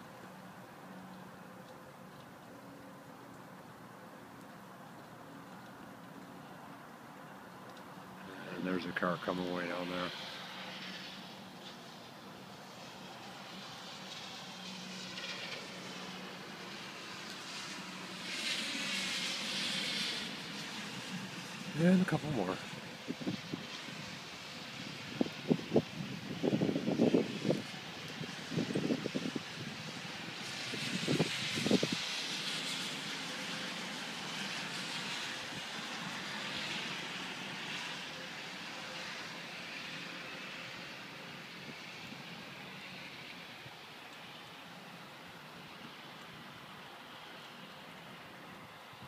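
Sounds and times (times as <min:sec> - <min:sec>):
rain pattering: 0:07.5 - 0:49.0
car tyre hiss on wet road: 0:08.3 - 0:49.0.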